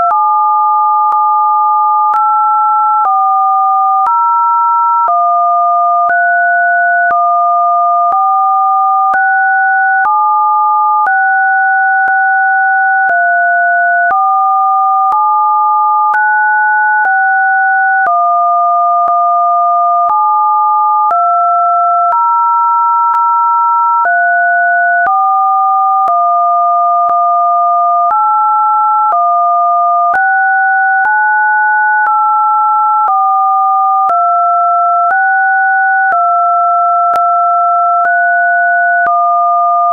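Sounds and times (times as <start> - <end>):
two electronic pure tones: 0.0 - 22.2, 24.0 - 39.9.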